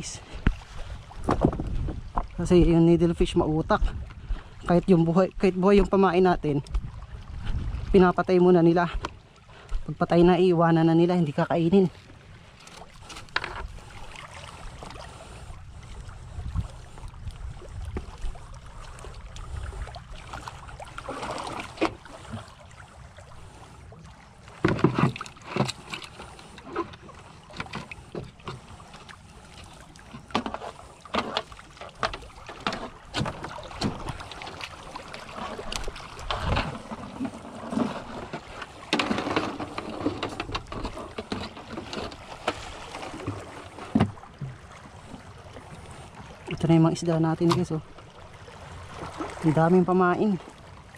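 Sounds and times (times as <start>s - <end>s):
water background: 0.0s - 50.9s.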